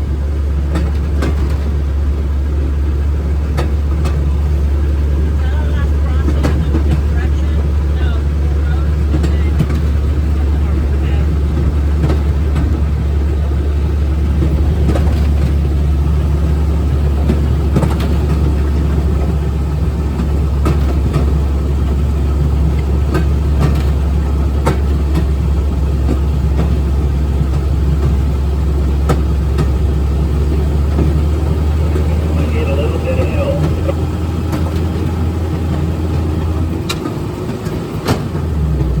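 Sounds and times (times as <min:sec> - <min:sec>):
rail motor car engine droning: 0:00.0 - 0:39.0.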